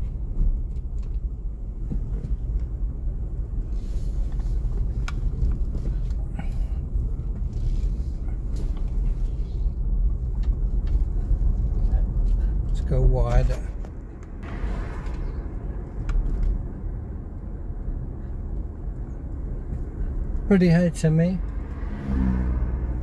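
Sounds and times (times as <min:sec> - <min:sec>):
car interior road rumble: 0:00.0 - 0:23.0.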